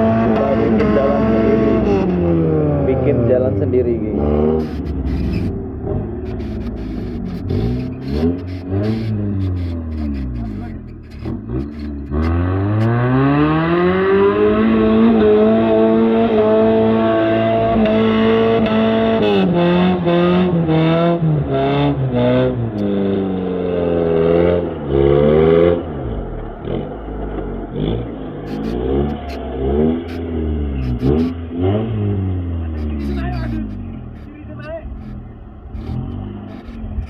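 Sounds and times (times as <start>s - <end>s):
engine revving hard: 0.0s - 26.9s, 27.7s - 37.0s.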